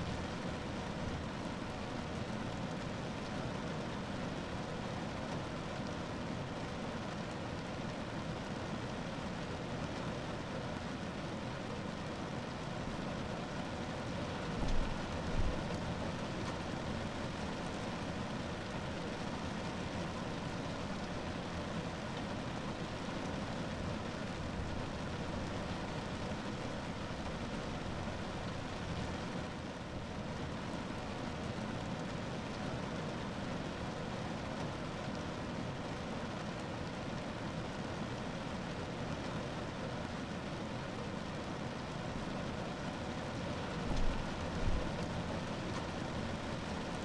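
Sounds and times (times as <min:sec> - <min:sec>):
rain on a car roof: 0:00.0 - 0:47.0.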